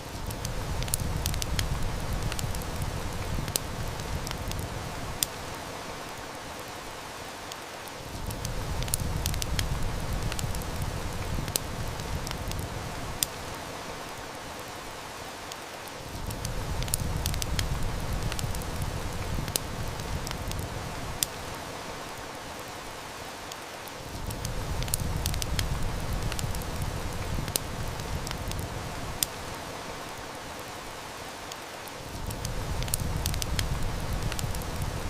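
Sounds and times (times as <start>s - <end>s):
heavy rain hissing: 0.0s - 35.0s
wood fire crackling: 0.0s - 35.0s.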